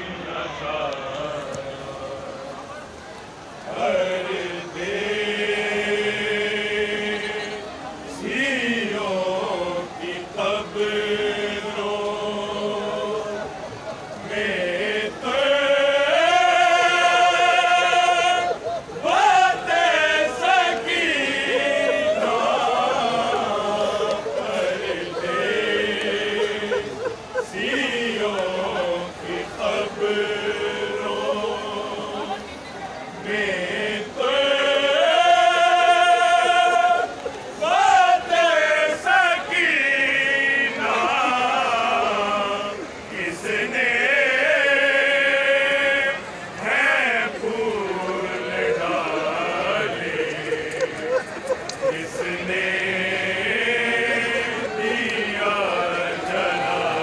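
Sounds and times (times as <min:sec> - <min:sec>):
men chanting in unison: 0:00.0 - 0:03.0, 0:03.6 - 0:57.0.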